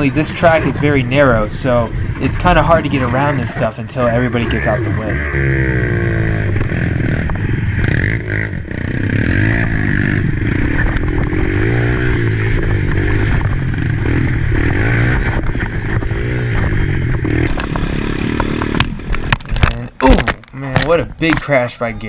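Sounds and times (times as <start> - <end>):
quad engine revving: 0.0 - 19.8.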